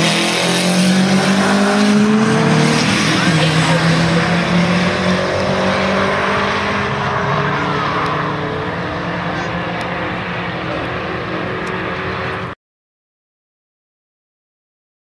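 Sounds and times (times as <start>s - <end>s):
drag car engine accelerating: 0.0s - 12.6s.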